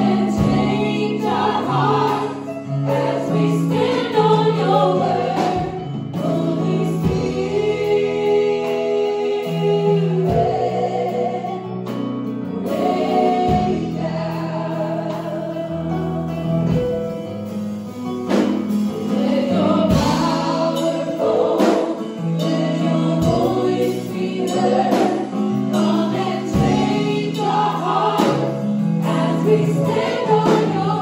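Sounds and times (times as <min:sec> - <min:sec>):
group singing gospel song: 0:00.0 - 0:16.9, 0:18.3 - 0:31.0.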